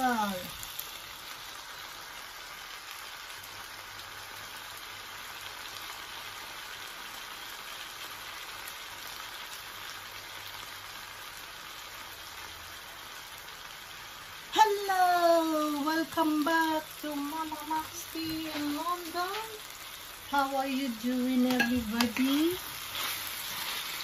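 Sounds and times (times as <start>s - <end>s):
vegetables sizzling in a frying pan: 0.0s - 24.0s.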